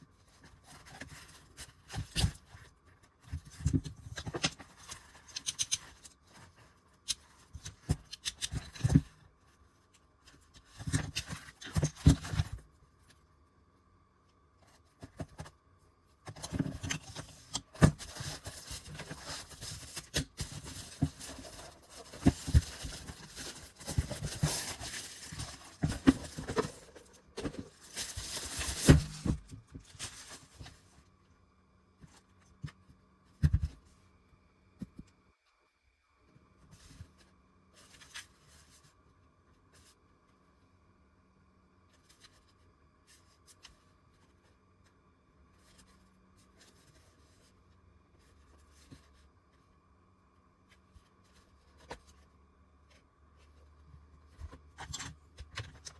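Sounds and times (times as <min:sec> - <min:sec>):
handling rustling and scraping: 0:00.0 - 0:13.6, 0:14.2 - 0:31.3, 0:36.6 - 0:40.5, 0:41.9 - 0:55.9.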